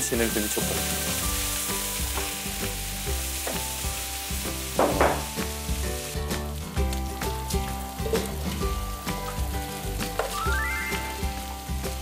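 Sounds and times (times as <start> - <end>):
kimchi sizzling in a pan: 0.0 - 12.0.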